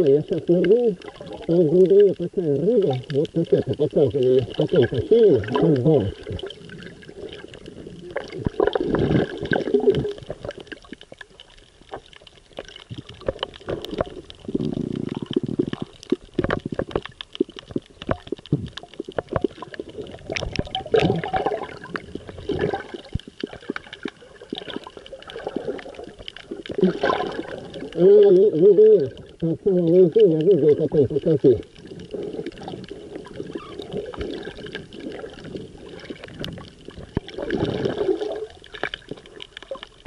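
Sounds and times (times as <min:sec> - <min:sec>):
crackle of sharp clicks underwater: 0:00.0 - 0:40.0
water gurgling and sloshing: 0:00.0 - 0:40.0.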